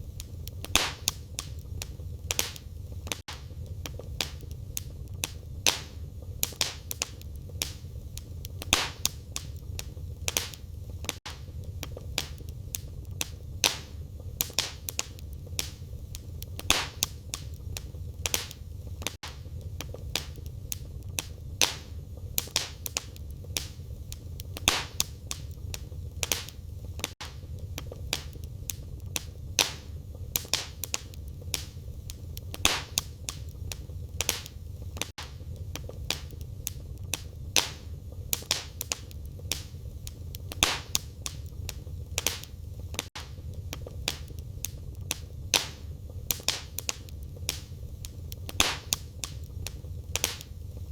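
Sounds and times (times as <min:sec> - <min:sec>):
firewood crackling and popping: 0:00.0 - 0:50.9
low rumble of flames: 0:00.0 - 0:50.9.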